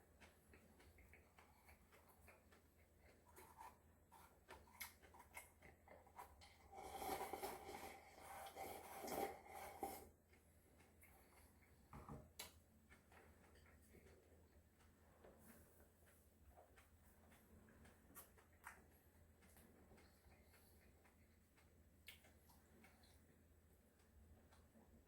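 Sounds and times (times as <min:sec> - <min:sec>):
wet chewing: 0:00.0 - 0:25.0.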